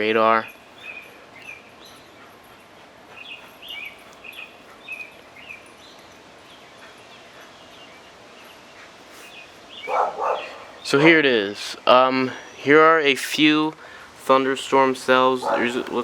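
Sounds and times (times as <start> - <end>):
bird chirping: 0.0 - 13.5, 14.6 - 16.0
outdoor background hiss: 0.0 - 16.0.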